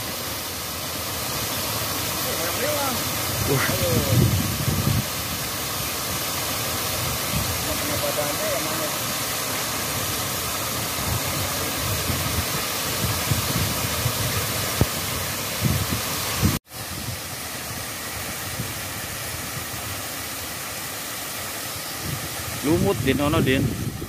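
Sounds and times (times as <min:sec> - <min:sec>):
water rushing over weir: 0:00.0 - 0:24.0.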